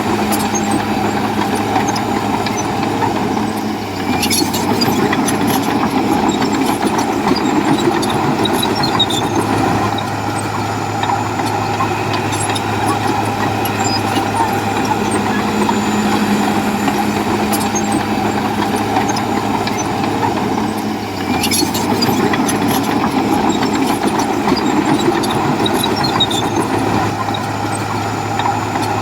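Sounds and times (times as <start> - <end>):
bulldozer diesel engine running: 0.0 - 29.0
sharp clicks and clanks: 0.1 - 29.0.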